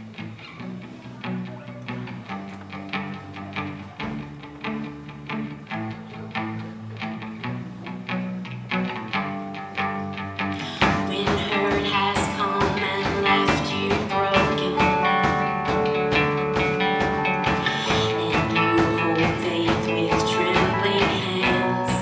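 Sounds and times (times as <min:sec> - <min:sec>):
instrumental rock ballad: 0:00.0 - 0:22.0.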